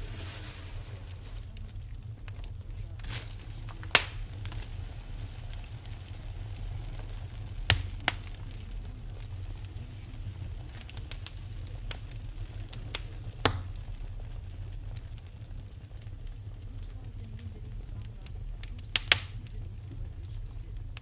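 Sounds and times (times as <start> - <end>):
loud pops from fire: 0.0 - 21.0
wood fire crackling: 0.0 - 21.0.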